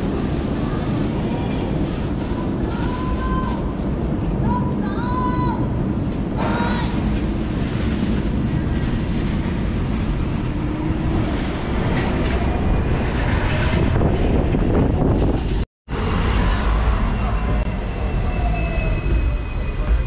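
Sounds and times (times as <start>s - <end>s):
electric tram rumbling: 0.0s - 20.0s.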